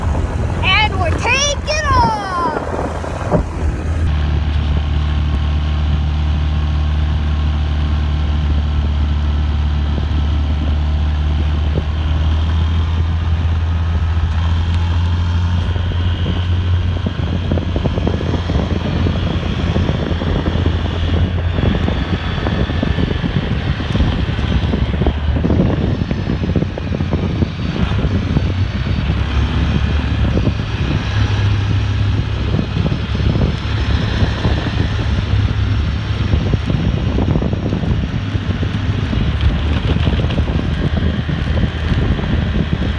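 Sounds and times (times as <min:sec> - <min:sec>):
engine running with low hum: 0:00.0 - 0:42.9.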